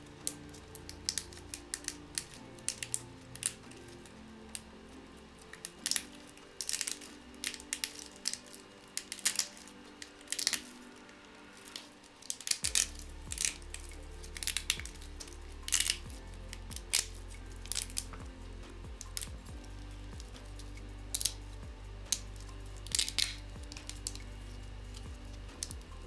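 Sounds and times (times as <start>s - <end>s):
resin supports snapping: 0.1s - 4.7s, 5.4s - 11.0s, 11.6s - 19.5s, 20.1s - 26.0s.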